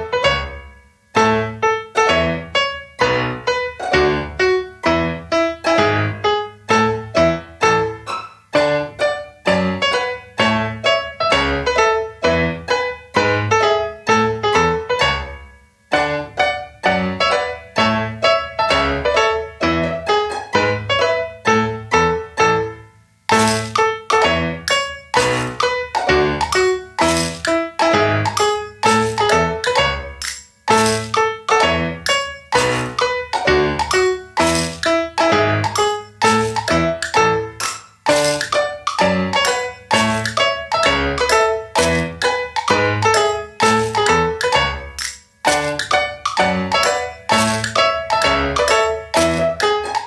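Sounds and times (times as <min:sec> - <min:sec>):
light piano tune: 0:00.0 - 0:50.0.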